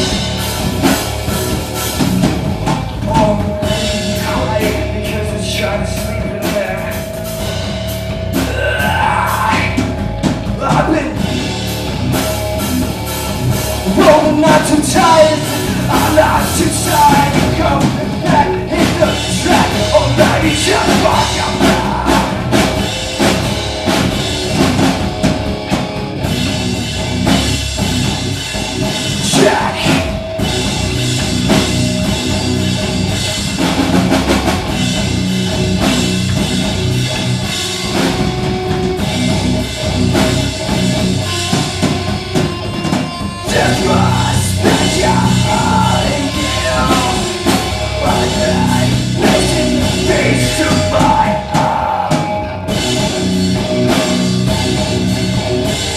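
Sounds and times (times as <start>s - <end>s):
drum kit beat: 0.0s - 55.9s
rock band playing live: 0.0s - 55.9s.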